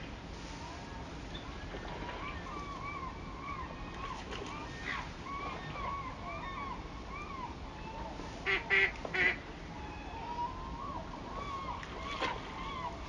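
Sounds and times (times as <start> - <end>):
soft repeated bird calls: 1.3 - 13.0.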